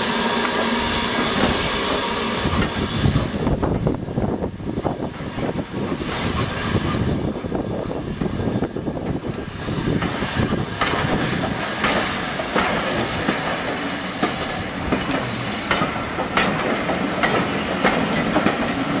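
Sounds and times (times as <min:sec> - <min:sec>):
steam hissing: 0:00.0 - 0:19.0
wheels clacking on rail joints: 0:00.3 - 0:04.4, 0:07.2 - 0:19.0.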